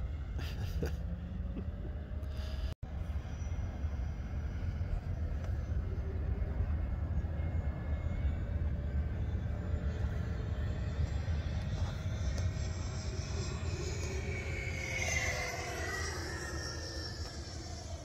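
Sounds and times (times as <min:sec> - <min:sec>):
low rumble: 0:00.0 - 0:18.0
model plane propellers droning: 0:00.0 - 0:18.0.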